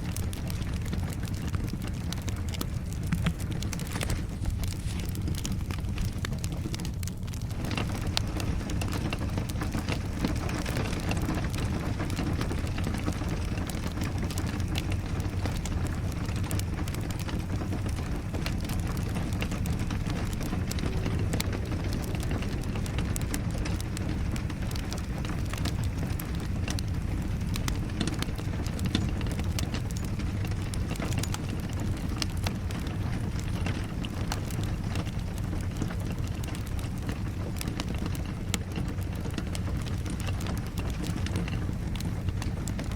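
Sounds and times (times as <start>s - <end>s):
steady rain: 0.0s - 42.9s
wood fire crackling: 0.0s - 42.9s.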